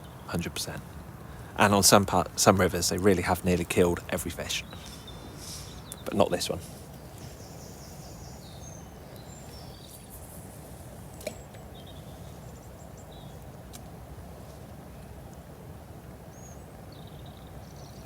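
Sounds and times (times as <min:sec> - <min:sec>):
low outdoor rumble: 0:00.0 - 0:18.0
small birds chirping: 0:00.0 - 0:18.0.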